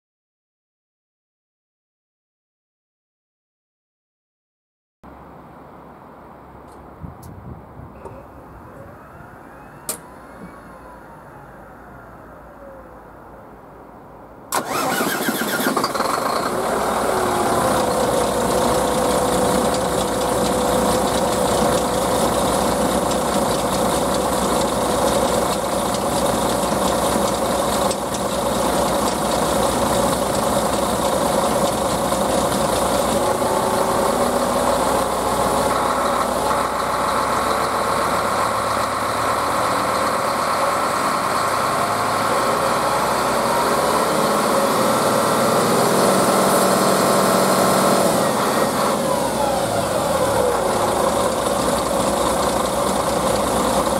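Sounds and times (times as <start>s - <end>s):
bus engine starting and idling: 6.5s - 53.9s.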